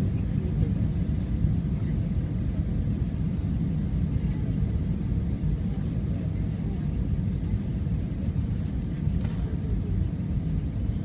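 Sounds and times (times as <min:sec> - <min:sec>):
airliner engines low rumble: 0:00.0 - 0:11.0.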